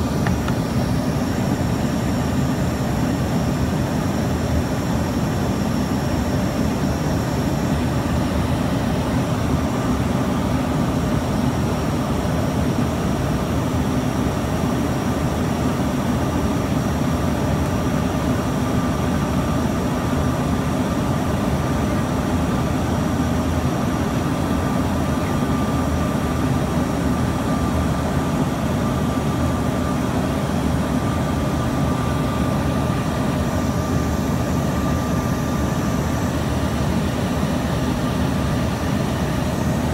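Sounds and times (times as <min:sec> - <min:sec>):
jet engine and airflow rush: 0:00.0 - 0:39.9
thin steady whine: 0:00.0 - 0:39.9.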